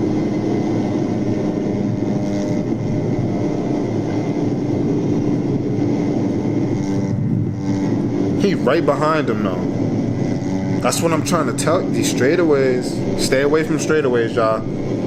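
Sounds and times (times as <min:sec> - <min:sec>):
continuous rushing noise: 0:00.0 - 0:15.0
vehicle engine running: 0:00.0 - 0:15.0.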